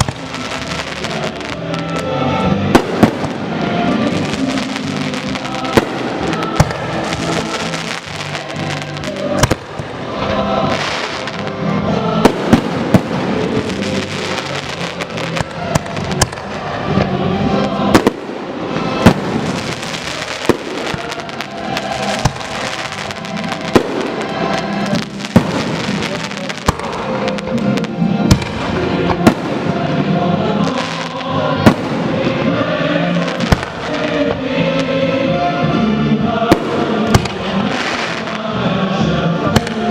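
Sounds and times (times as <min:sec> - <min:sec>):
fireworks bursting with crackle: 0:00.0 - 0:35.0, 0:36.4 - 0:38.7, 0:39.4 - 0:39.9
music playing: 0:00.0 - 0:39.9.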